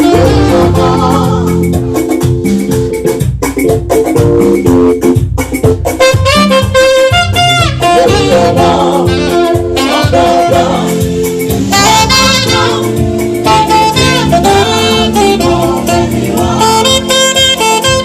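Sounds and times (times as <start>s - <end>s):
gospel band music: 0.0s - 18.0s
saxophone melody: 0.0s - 18.0s.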